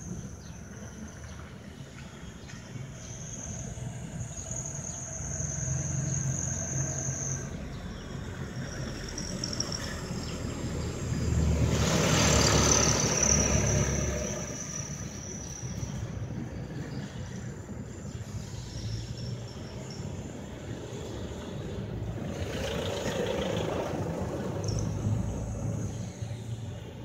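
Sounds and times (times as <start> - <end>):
vehicle engine rumble passing by: 0.0 - 27.0.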